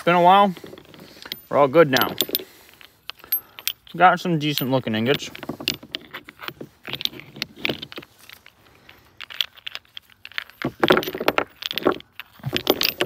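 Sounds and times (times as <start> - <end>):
metal ingots clinking: 0.3 - 13.0.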